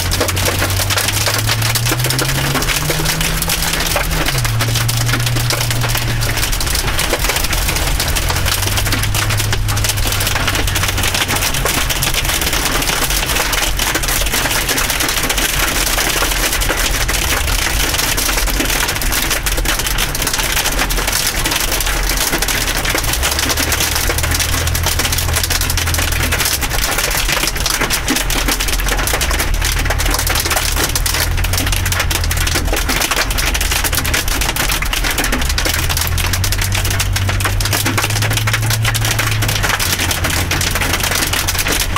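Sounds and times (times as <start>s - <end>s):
hail and rain on car roof: 0.0s - 41.9s.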